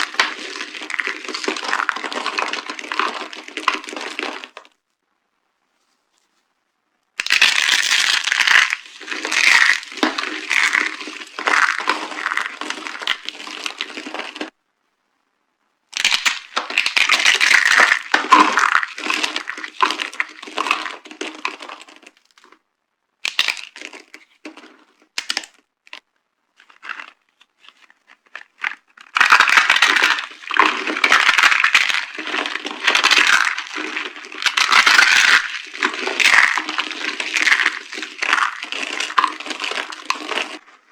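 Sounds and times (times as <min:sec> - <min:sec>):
dry soap crunching and cracking: 0:00.0 - 0:04.7, 0:07.2 - 0:14.5, 0:16.0 - 0:22.6, 0:23.2 - 0:26.0, 0:26.6 - 0:40.9.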